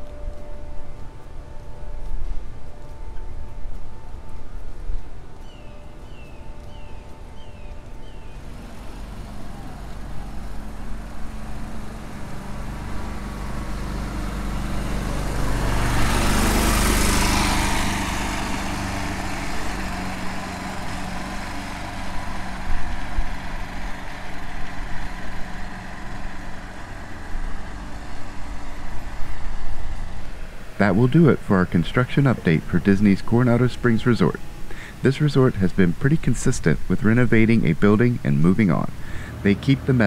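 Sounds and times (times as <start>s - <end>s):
low engine hum: 0.0s - 40.0s
motor vehicle passing: 0.0s - 40.0s.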